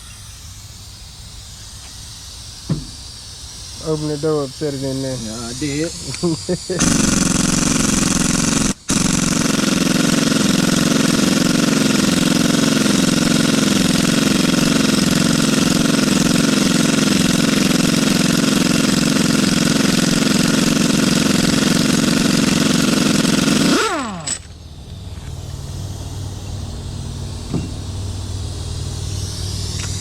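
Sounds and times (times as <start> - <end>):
engine running: 3.8 - 30.0.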